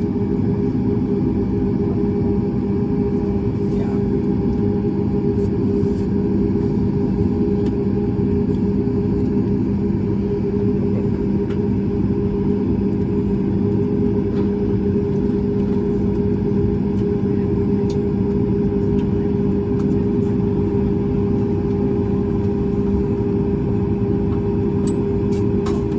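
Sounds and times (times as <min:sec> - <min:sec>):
jet engine idling hum: 0:00.0 - 0:25.9.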